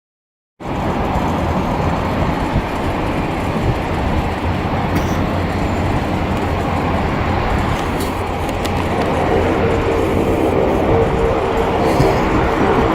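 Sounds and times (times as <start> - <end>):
jet engines rumbling: 0.6 - 12.9.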